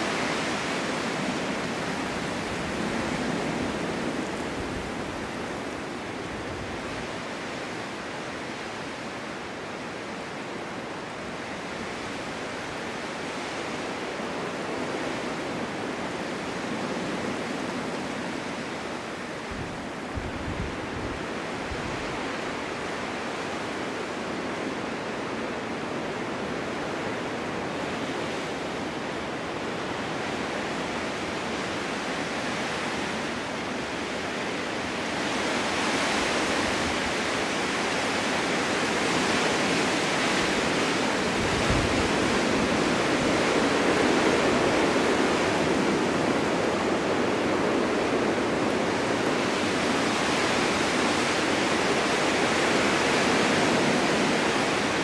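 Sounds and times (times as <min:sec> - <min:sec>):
snowstorm wind rushing: 0:00.0 - 0:08.4, 0:11.6 - 0:23.7, 0:29.2 - 0:55.0.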